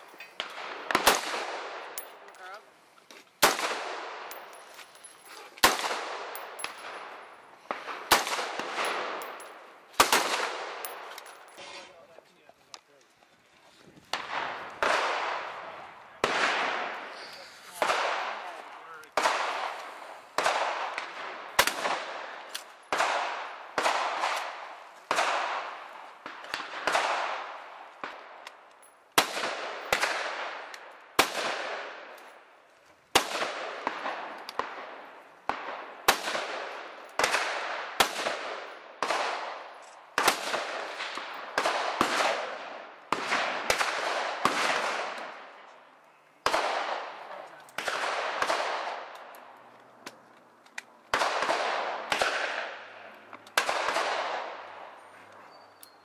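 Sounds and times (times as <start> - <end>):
gunshots echoing: 0.4 - 2.3, 3.4 - 4.6, 5.6 - 11.5, 14.1 - 28.4, 29.2 - 32.2, 33.1 - 45.4, 46.4 - 49.3, 51.1 - 55.0.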